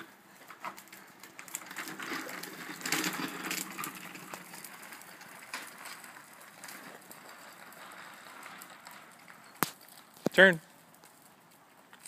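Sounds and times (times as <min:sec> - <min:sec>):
bicycle clicks: 0:00.0 - 0:12.0
bicycle tyres rolling: 0:00.0 - 0:12.0.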